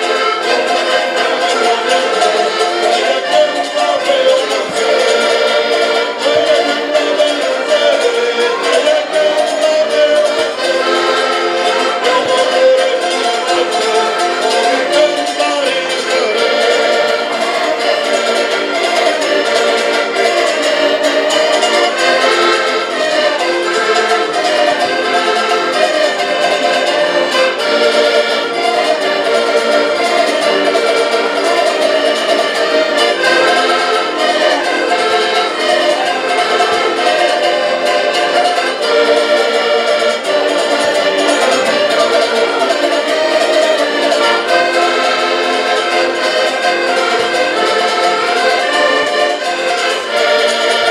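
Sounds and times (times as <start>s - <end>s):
button accordions playing folk tune: 0.0s - 50.9s
plucked string instrument: 0.0s - 50.9s.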